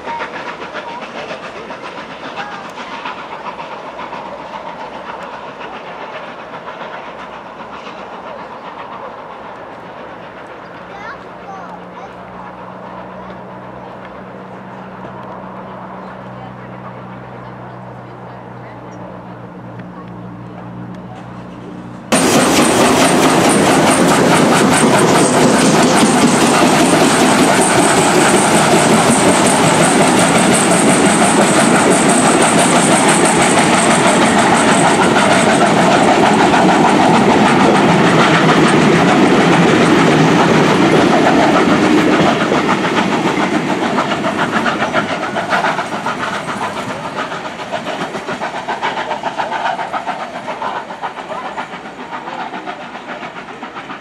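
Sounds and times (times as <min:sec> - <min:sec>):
steam train passing on rails: 0:00.0 - 0:54.0.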